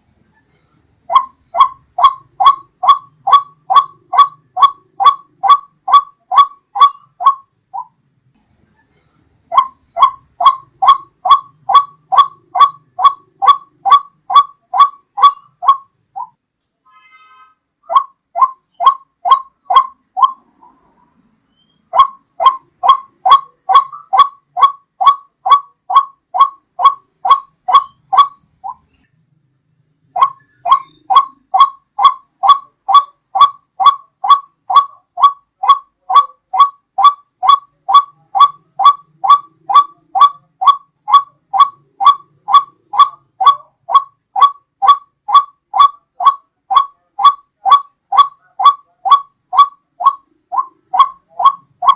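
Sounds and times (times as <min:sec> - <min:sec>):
waterhen calling: 0:01.1 - 0:07.9, 0:09.5 - 0:16.4, 0:17.8 - 0:20.9, 0:21.5 - 0:29.0, 0:30.1 - 0:51.9.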